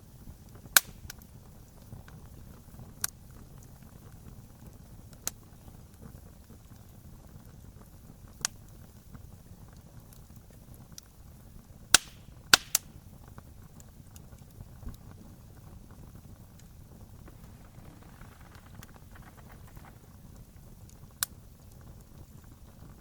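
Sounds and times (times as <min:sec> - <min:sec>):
wood fire burning: 0:00.0 - 0:23.0
wood popping in fire: 0:00.2 - 0:23.0.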